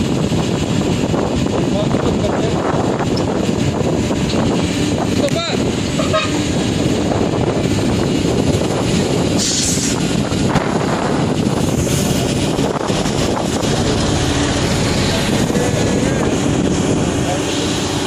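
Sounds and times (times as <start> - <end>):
excavator diesel engine and hydraulics: 0.0 - 18.0.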